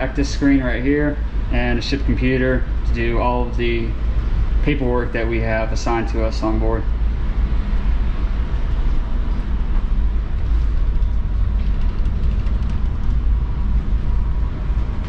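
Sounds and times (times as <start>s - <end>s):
low hum tones: 0.0s - 15.0s
ship machinery drone and rumble: 0.0s - 15.0s.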